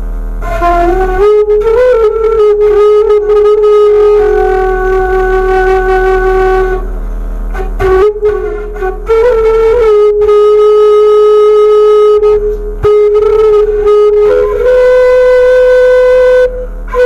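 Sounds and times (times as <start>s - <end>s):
bamboo flute melody: 0.4s - 17.0s.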